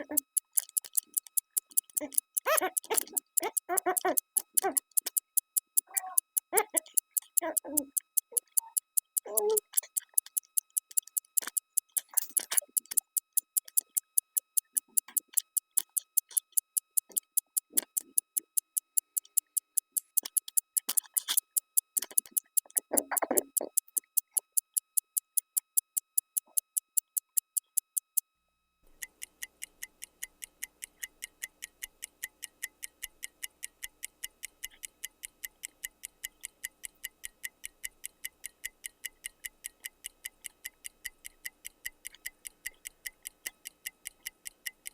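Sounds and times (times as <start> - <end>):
fast clock-like ticking: 0.0 - 28.2, 29.0 - 44.9.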